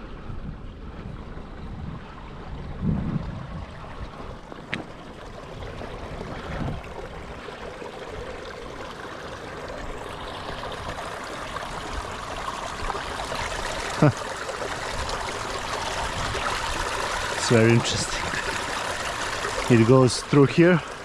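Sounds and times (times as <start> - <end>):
stream trickling over rocks: 1.1 - 21.0.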